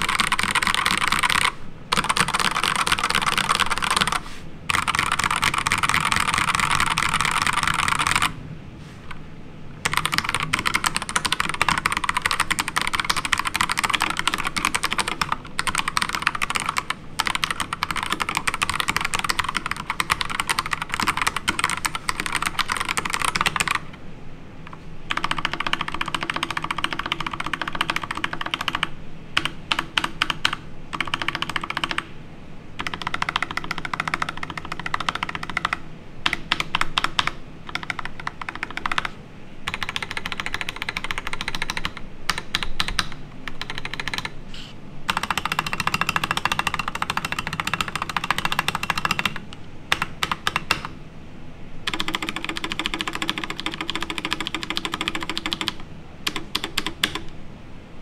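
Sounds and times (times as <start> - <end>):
typing on mechanical keyboard: 0.0 - 8.4, 9.8 - 24.0, 25.1 - 32.1, 32.8 - 44.4, 45.1 - 50.9, 51.9 - 57.3.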